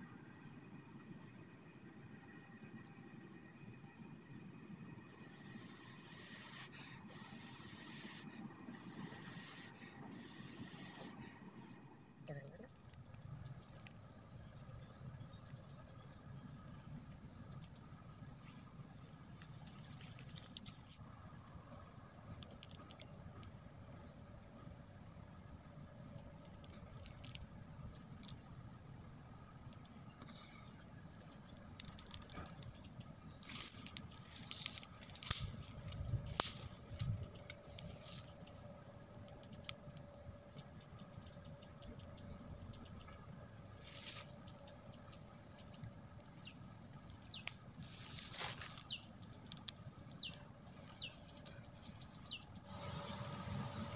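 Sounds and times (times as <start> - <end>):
insect chorus buzzing: 0.0 - 53.9.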